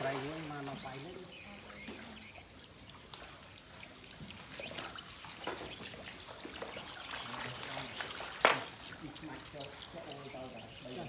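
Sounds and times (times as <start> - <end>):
water splashing and trickling: 0.0 - 11.0
small splashes and knocks: 1.6 - 11.0.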